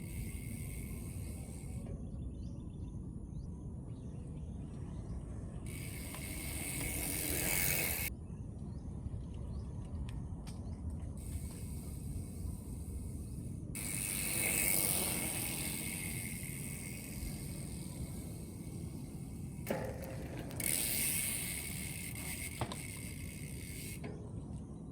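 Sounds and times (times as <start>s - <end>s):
bicycle freehub buzzing: 0.0s - 3.8s, 4.9s - 8.1s, 11.2s - 24.9s
wind and road rumble: 0.0s - 24.9s.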